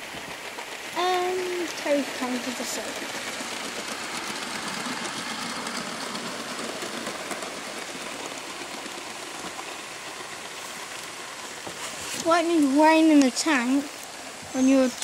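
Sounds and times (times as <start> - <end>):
steam model train hissing: 0.0 - 15.0.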